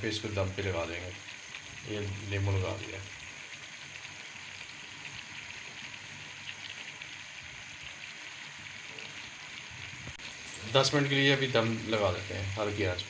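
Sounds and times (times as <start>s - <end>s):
curry sizzling in a pot: 0.0s - 13.0s.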